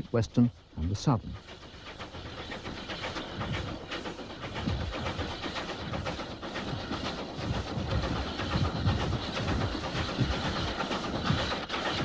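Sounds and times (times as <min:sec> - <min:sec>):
steam locomotive beat: 0:00.0 - 0:12.0
rattle and clatter: 0:00.8 - 0:12.0.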